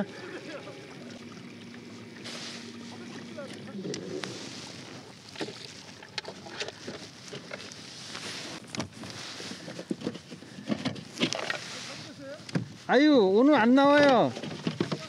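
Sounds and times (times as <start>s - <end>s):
water washing against hull: 0.0s - 12.9s, 13.8s - 15.0s.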